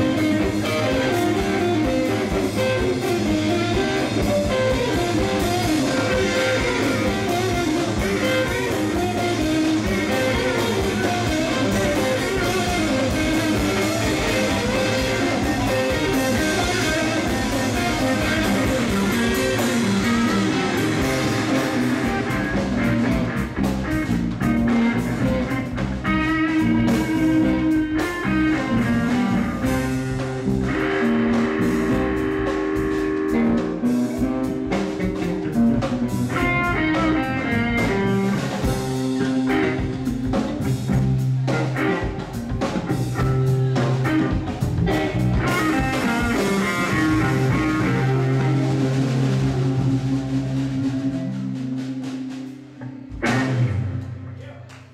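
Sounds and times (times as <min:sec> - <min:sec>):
drum kit: 0:00.0 - 0:54.9
electric guitars playing: 0:00.0 - 0:54.9.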